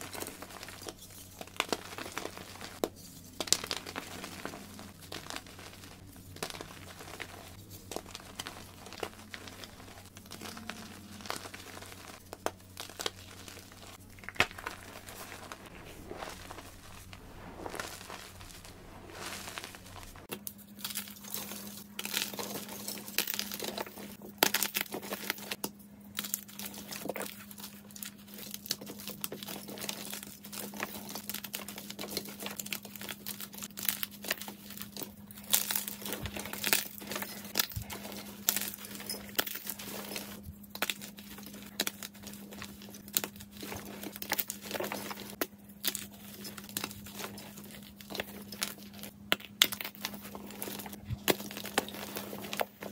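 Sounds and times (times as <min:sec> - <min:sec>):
faint steady hum: 0:00.0 - 0:52.9
hands crushing chalk blocks: 0:00.0 - 0:52.9.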